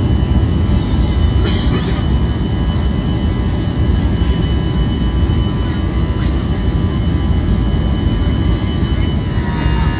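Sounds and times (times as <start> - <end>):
airliner engine rumble in cabin: 0.0 - 9.9
faint steady engine whines: 0.0 - 9.9.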